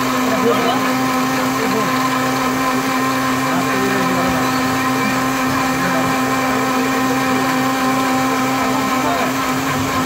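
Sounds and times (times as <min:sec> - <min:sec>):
electric blender motor whining: 0:00.0 - 0:10.0.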